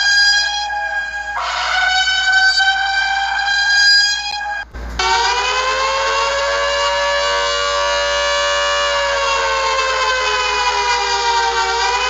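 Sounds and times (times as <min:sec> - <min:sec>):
chord-like alarm horn tone: 0:00.0 - 0:12.0
rising siren tone: 0:00.0 - 0:12.0.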